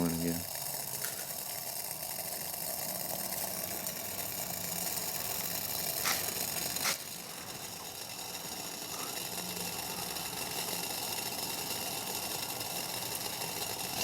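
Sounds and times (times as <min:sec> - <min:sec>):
stove flame hissing: 0:00.0 - 0:14.0
water boiling and bubbling: 0:00.0 - 0:14.0.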